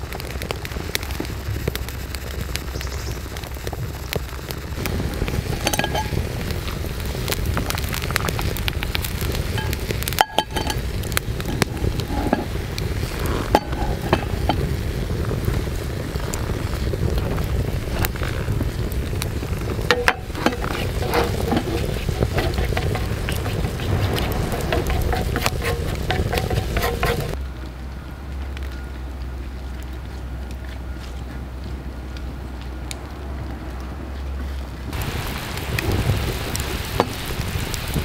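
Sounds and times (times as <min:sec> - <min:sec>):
food deep-frying in oil: 0:00.0 - 0:27.4, 0:34.9 - 0:38.0
wood fire crackling: 0:00.0 - 0:38.0.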